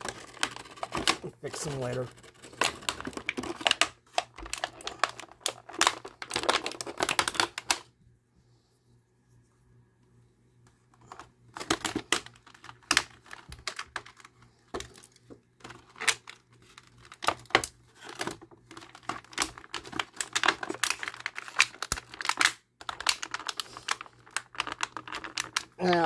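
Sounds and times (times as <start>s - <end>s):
plastic packaging crackling: 0.0s - 7.9s, 11.5s - 26.0s.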